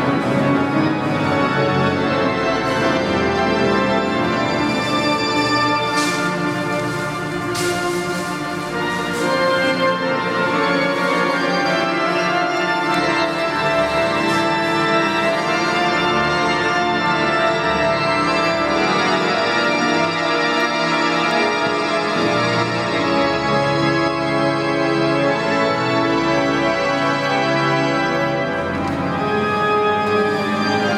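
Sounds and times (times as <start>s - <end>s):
pipe organ playing chords: 0.0s - 30.9s.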